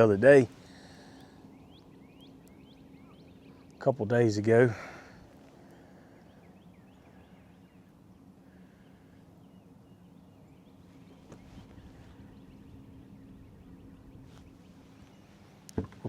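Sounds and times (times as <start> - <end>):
faint birds chirping: 0.0 - 16.0
low steady hum: 0.0 - 16.0.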